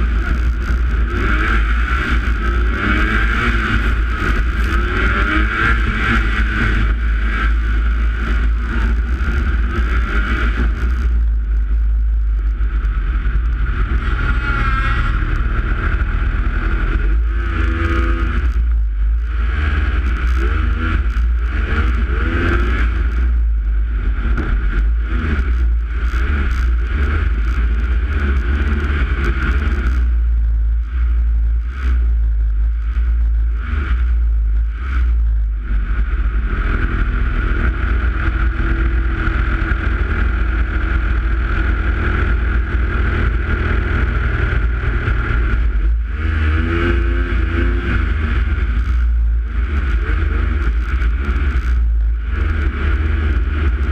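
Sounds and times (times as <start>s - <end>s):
snowmobile engine revving: 0.0s - 11.2s, 12.9s - 18.6s, 19.2s - 30.2s, 32.8s - 53.9s
wind rumble on microphone: 0.0s - 53.9s.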